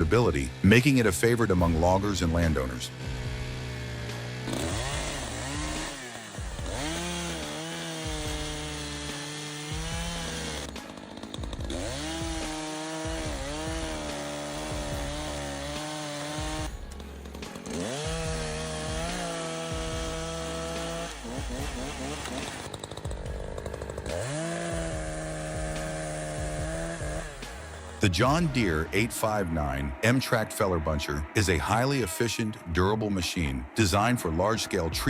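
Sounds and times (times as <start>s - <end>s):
chainsaw revving: 0.0s - 30.0s.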